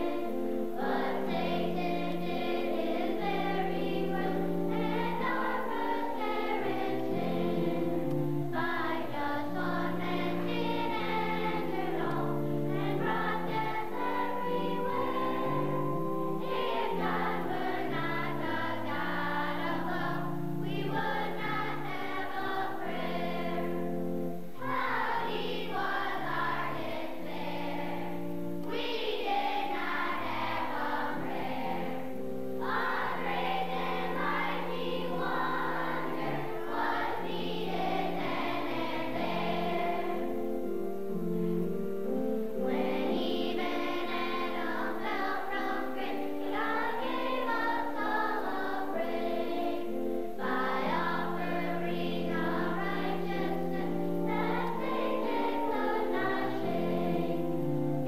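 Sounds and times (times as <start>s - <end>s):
choir singing: 0.0s - 58.0s
instrumental accompaniment: 0.0s - 58.0s.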